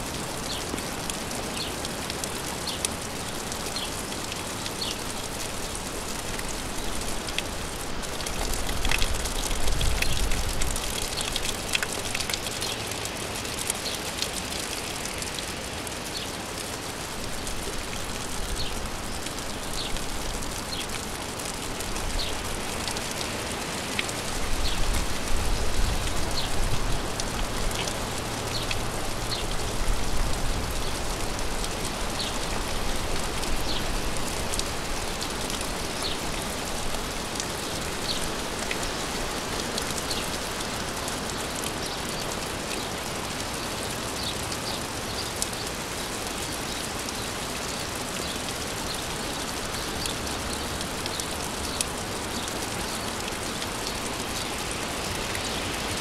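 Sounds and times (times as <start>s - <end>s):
raindrops ticking: 0.0s - 56.0s
steady rain hiss: 0.0s - 56.0s.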